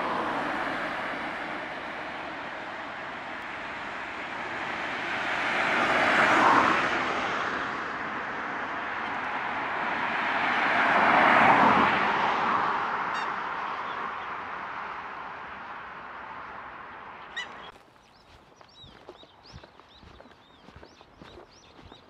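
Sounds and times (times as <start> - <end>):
road vehicles passing: 0.0 - 22.0.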